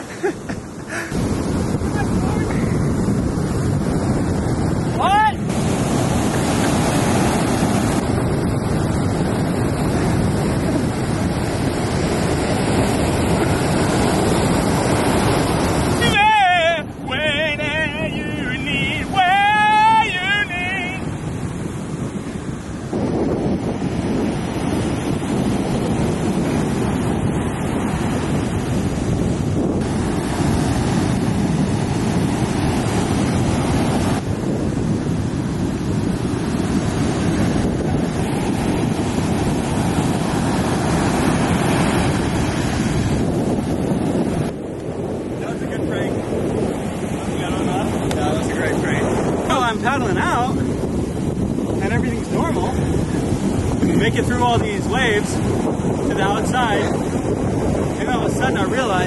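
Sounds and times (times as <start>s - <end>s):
ocean waves breaking on beach: 0.0s - 59.0s
wind buffeting microphone: 0.0s - 59.0s.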